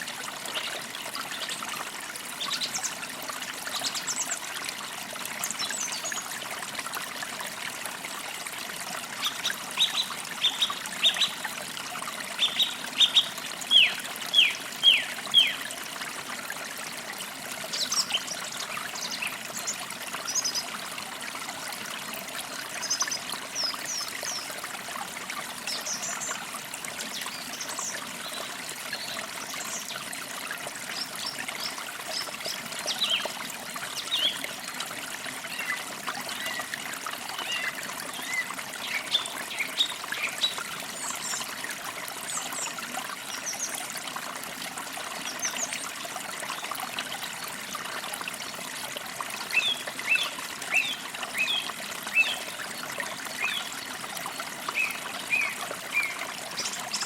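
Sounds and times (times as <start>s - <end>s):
creek trickling: 0.0s - 57.0s.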